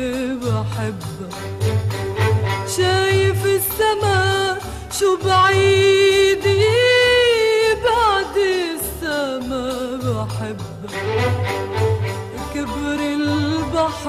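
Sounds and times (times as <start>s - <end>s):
woman singing: 0.0s - 2.0s, 2.6s - 14.0s.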